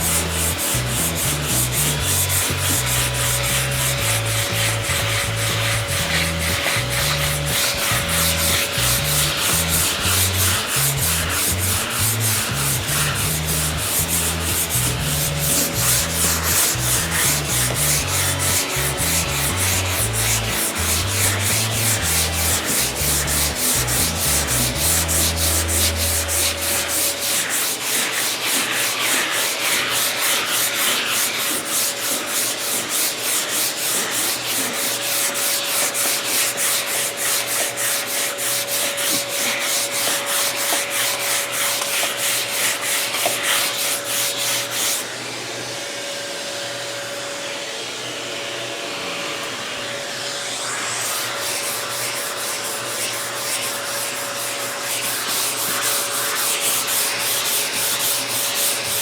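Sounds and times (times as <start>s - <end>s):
soft steady rubbing: 0.0s - 45.0s, 50.8s - 59.0s
sandpaper strokes: 0.0s - 45.1s, 50.5s - 59.0s.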